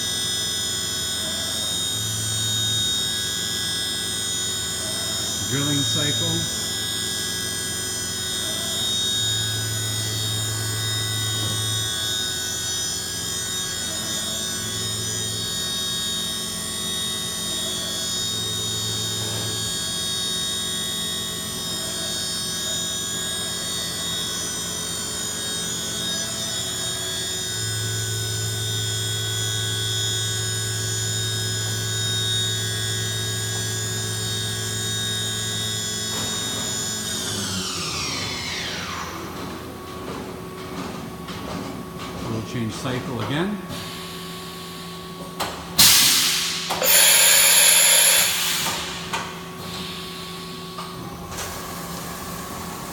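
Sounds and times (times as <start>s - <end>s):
machine spindle whine: 0.0s - 40.9s, 41.8s - 52.9s.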